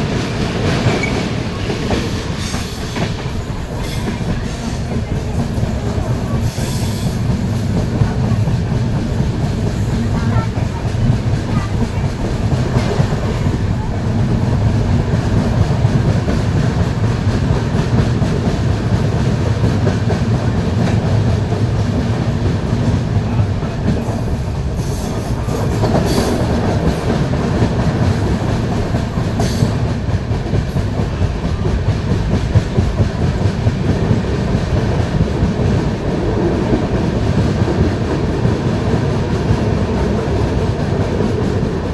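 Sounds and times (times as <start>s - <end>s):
train rumbling: 0.0s - 41.9s
wheels clacking over rail joints: 0.0s - 41.9s.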